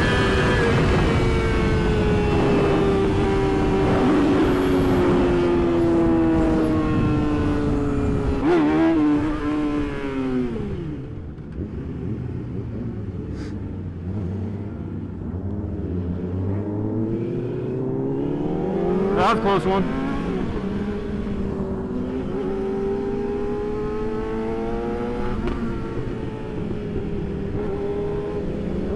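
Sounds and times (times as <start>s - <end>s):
motorcycle engine: 0.0s - 28.9s.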